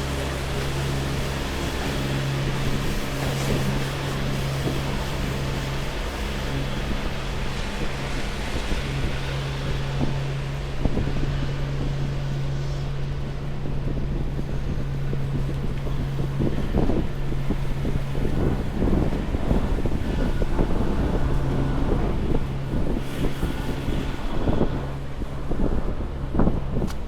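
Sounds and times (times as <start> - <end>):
steady low hum: 0.0 - 27.0
wind buffeting microphone: 0.0 - 27.0.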